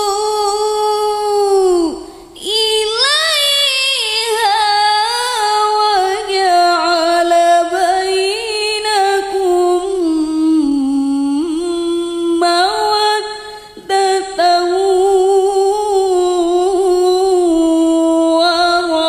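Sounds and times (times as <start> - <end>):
woman reciting melodically: 0.0 - 19.0.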